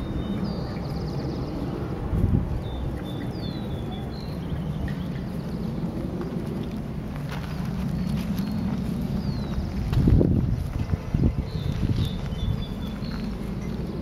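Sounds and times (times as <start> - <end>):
small birds chirping: 0.0 - 14.0
wind rumbling on microphone: 0.0 - 14.0.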